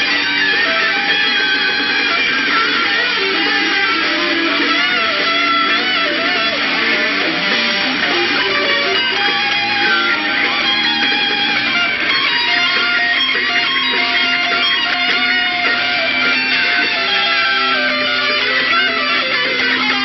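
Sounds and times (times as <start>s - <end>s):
electric guitar lead: 0.0s - 20.0s.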